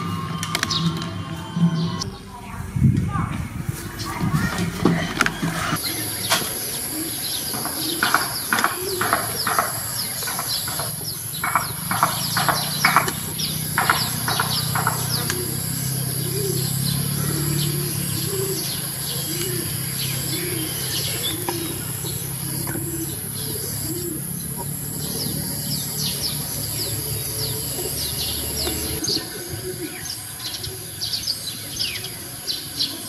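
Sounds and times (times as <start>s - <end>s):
birds chirping: 0.0s - 33.0s
steady high-pitched whine: 0.0s - 33.0s
dove cooing: 4.7s - 33.0s.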